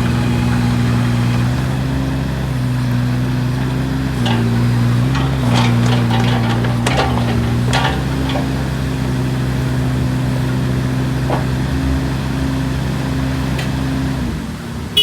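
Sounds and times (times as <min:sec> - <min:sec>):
diesel engine idling: 0:00.0 - 0:13.5.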